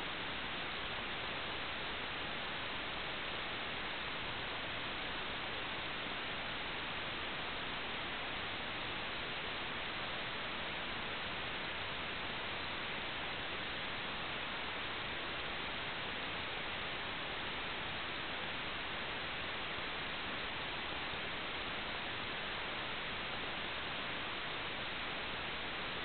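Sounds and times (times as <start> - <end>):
steady static hiss: 0.0 - 26.0.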